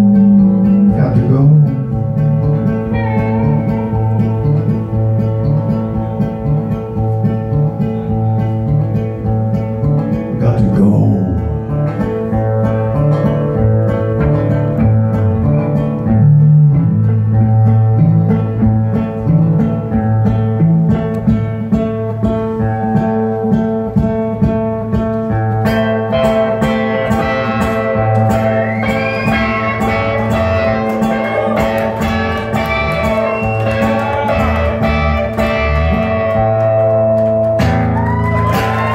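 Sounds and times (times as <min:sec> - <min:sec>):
acoustic guitar chords: 0:00.0 - 0:38.9
electric guitar lead with bends: 0:00.0 - 0:38.9.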